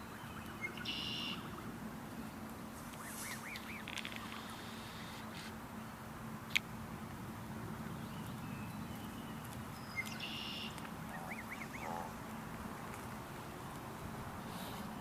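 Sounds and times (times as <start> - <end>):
birds chirping: 0.0 - 5.5, 7.8 - 15.0.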